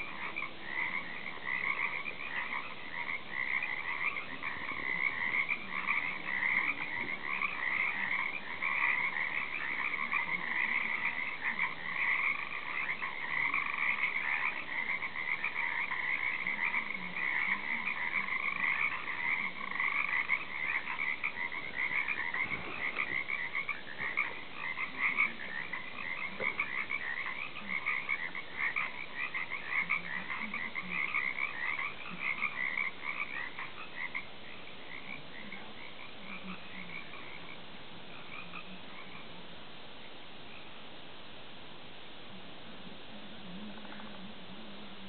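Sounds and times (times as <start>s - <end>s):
chorus of frogs trilling: 0.0s - 40.7s, 43.4s - 45.0s.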